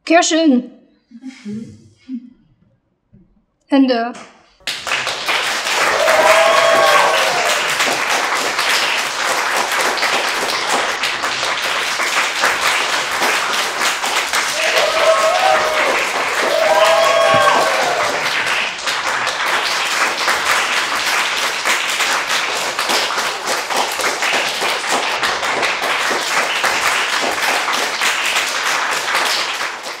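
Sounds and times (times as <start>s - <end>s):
audience applauding: 4.6s - 30.0s.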